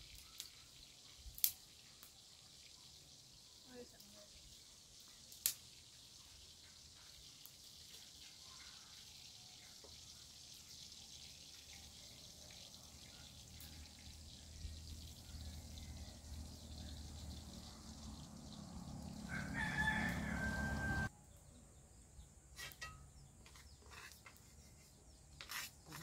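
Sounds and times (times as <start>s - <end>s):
food sizzling in pan: 0.0s - 21.1s.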